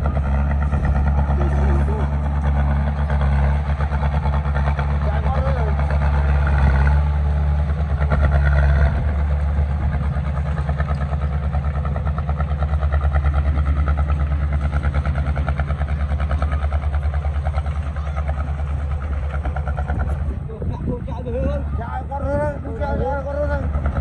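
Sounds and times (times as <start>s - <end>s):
diesel engine pulsing: 0.0s - 24.0s.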